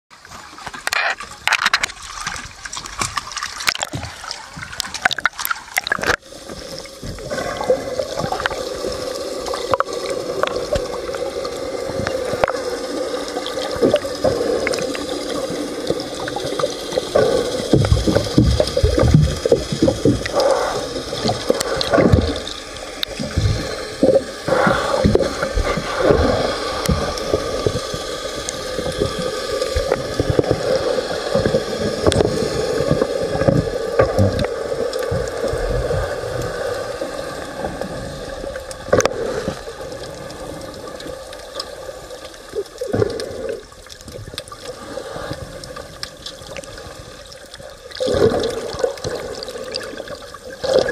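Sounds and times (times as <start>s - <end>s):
muffled underwater wash: 0.1s - 50.9s
water sloshing and gurgling: 0.1s - 50.9s.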